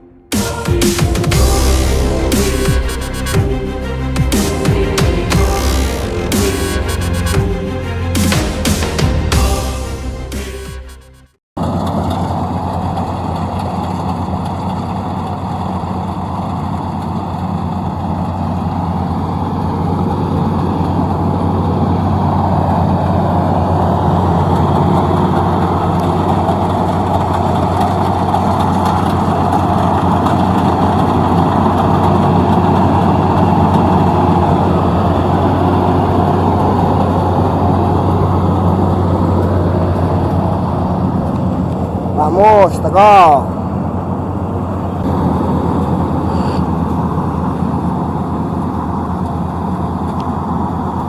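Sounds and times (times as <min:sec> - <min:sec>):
combine harvester droning: 0:00.0 - 0:51.0.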